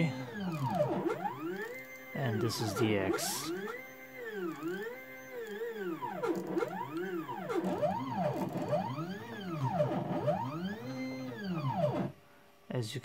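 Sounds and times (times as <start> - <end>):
stepper motors whining in sweeps: 0.0 - 12.1.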